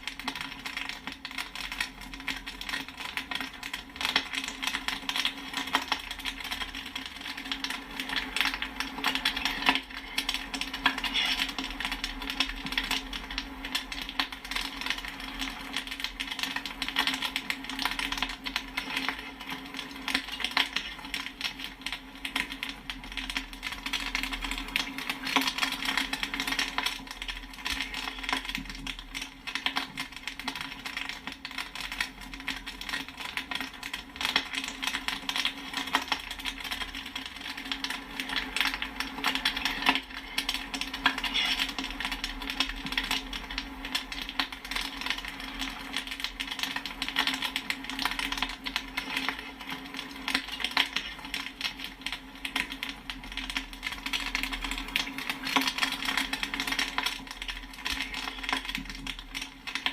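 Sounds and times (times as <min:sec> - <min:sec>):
popcorn popping: 0:00.0 - 0:59.9.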